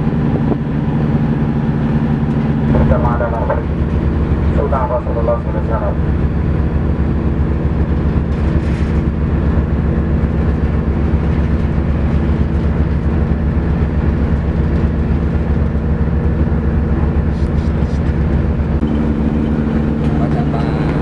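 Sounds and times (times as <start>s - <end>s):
ferry engines droning: 0.0s - 21.0s.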